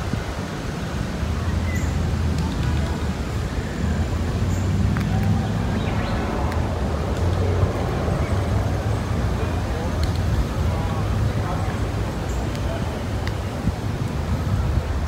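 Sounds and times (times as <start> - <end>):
faint voices: 0.0 - 15.0
low rumble of road traffic: 0.0 - 15.0.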